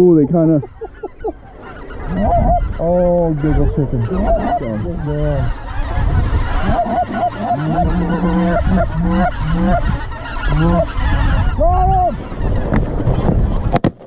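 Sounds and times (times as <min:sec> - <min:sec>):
geese calling: 0:00.0 - 0:13.8.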